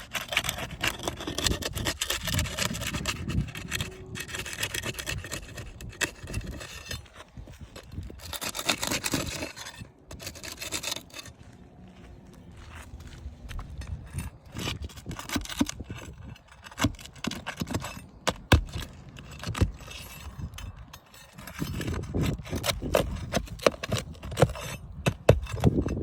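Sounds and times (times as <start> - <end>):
clicks knocks and scraping of repair: 0.0 - 11.4, 13.4 - 26.0.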